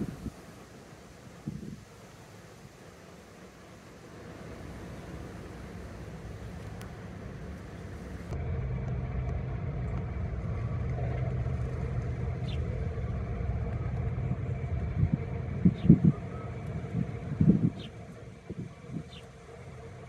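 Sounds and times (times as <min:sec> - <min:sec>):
low engine rumble: 0:00.0 - 0:20.0.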